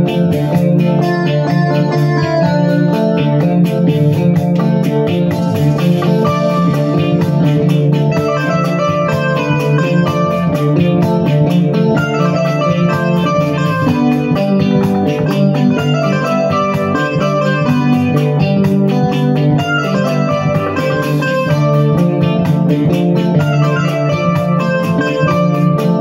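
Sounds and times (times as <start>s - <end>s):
electronic keyboard playing: 0.0s - 26.0s
ticking beat: 0.0s - 26.0s.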